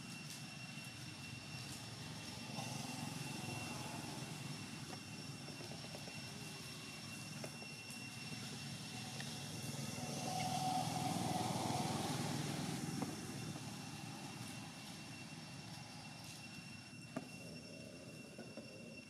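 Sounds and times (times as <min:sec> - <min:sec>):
high-pitched whine: 0:00.0 - 0:19.0
distant engine rumble: 0:01.8 - 0:18.6.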